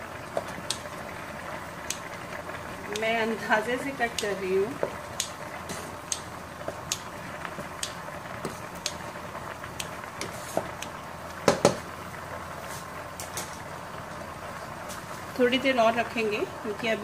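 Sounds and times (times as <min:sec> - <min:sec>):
boiling water bubbling: 0:00.0 - 0:17.0.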